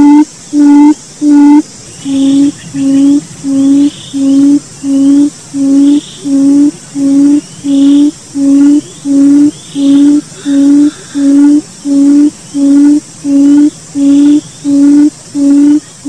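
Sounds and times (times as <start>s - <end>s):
bird booming hoots: 0.0s - 16.0s
faint higher chirps: 0.0s - 16.0s.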